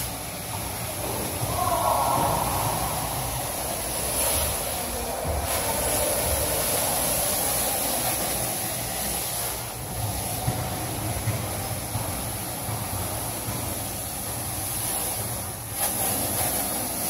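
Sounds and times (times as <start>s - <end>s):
carpet extraction vacuum hiss: 0.0s - 17.0s.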